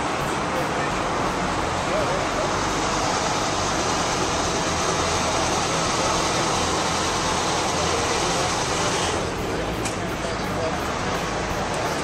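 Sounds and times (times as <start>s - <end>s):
engine running hum: 0.0s - 12.0s.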